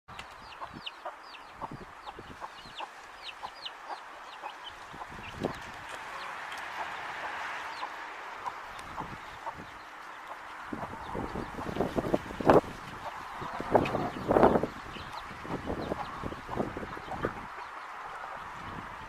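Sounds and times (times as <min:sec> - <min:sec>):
chicks peeping: 0:00.1 - 0:19.0.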